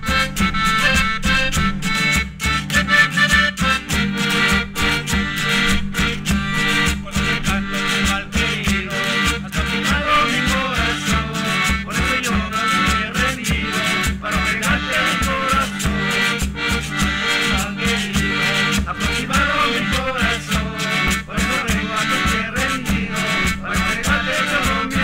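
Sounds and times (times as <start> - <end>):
plucked and strummed strings: 0.0 - 25.0
steady low drum beat: 0.1 - 2.6, 4.1 - 25.0.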